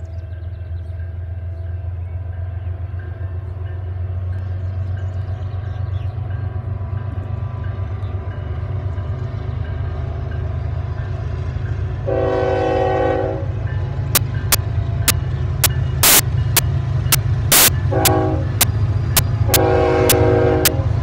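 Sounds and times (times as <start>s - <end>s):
faint grade-crossing bell ringing: 0.0s - 20.4s
diesel locomotive rumble: 0.0s - 21.0s.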